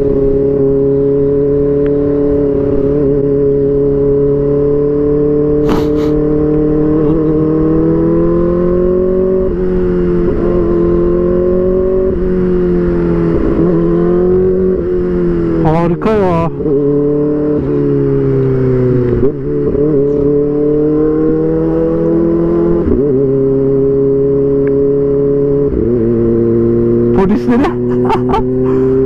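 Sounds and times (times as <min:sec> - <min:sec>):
motorcycle engine at high revs: 0:00.0 - 0:29.0.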